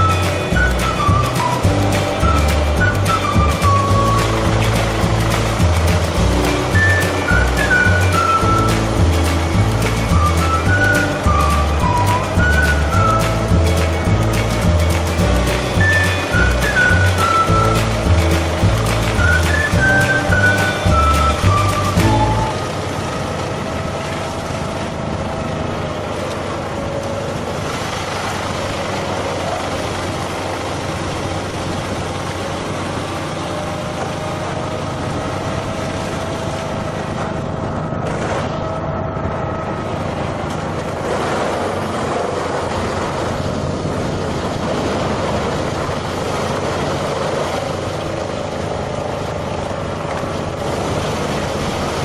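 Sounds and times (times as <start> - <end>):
heavy machine engine running: 0.0 - 52.0.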